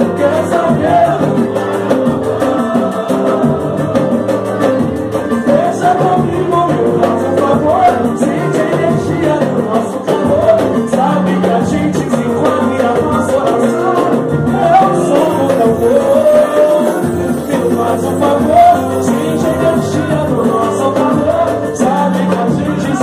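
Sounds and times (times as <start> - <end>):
band music: 0.0 - 23.0
steady drum beat: 0.0 - 23.0.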